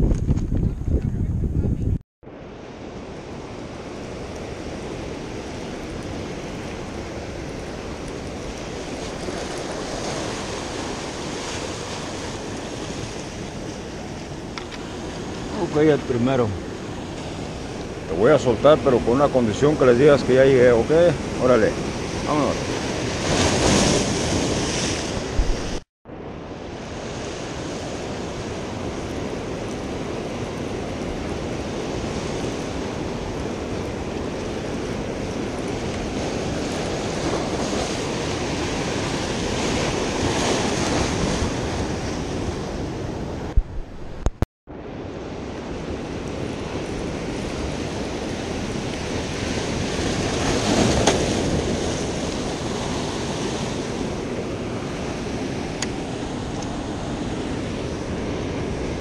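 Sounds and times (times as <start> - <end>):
surf breaking on rocks: 2.6 - 25.8, 26.4 - 44.4, 45.1 - 59.0.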